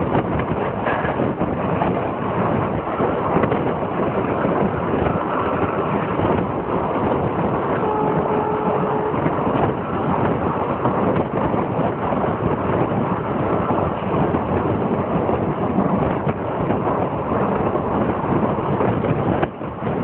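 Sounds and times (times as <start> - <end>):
train rumble and wind rush: 0.0 - 20.0.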